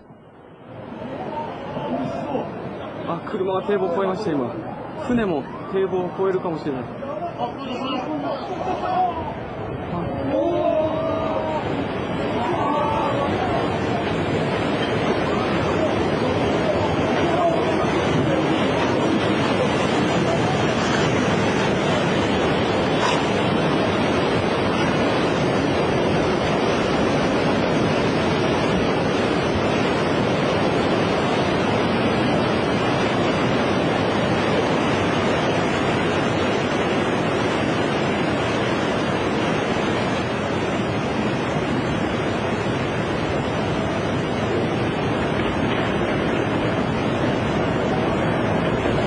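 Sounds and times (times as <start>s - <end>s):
floodwater rushing: 0.0s - 49.0s
wind on microphone: 7.7s - 49.0s.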